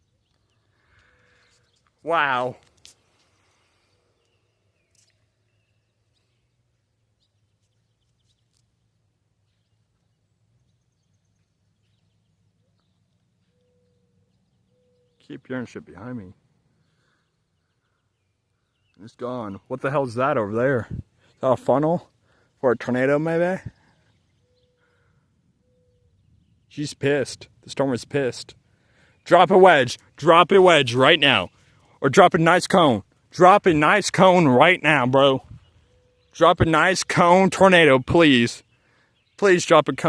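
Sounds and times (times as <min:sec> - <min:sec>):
bird chirps: 0:00.0 - 0:20.0, 0:20.9 - 0:32.9, 0:33.5 - 0:40.0.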